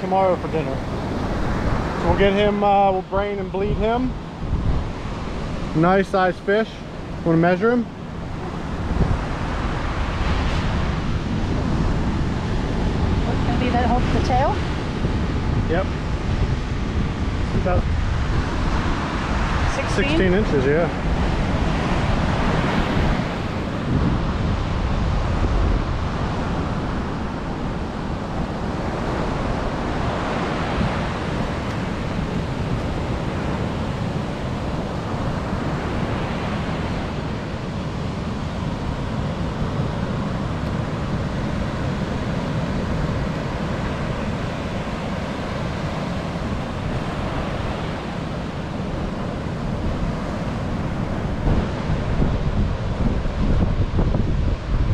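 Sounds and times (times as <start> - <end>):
ocean surf breaking: 0.0 - 54.9
wind buffeting microphone: 0.0 - 54.9.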